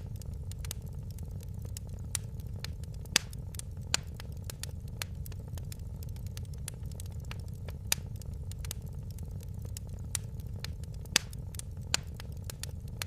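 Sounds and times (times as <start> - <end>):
loud fire pops: 0.0 - 13.0
wood fire crackling: 0.0 - 13.0.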